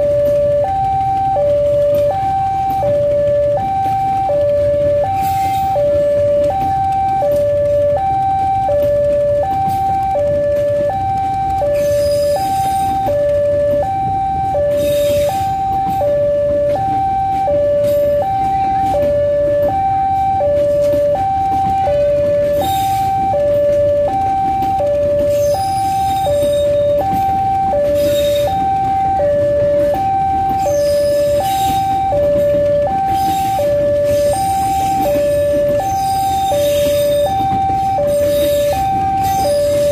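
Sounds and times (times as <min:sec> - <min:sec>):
level crossing two-tone alarm: 0:00.0 - 0:39.9
train carriages rumbling past: 0:00.0 - 0:39.9
train wheels clattering: 0:00.0 - 0:39.9.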